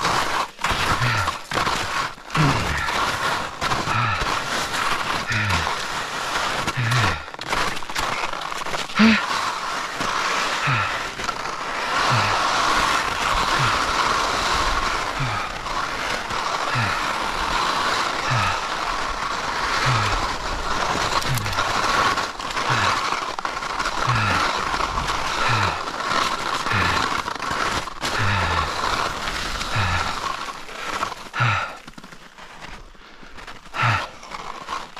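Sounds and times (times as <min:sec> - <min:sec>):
skis scraping over snow: 0:00.0 - 0:34.9.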